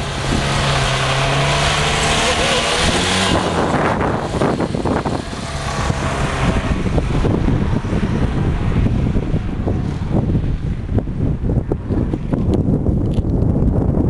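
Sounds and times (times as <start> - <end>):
van engine passing: 0.0 - 12.9
wind buffeting microphone: 0.0 - 14.0.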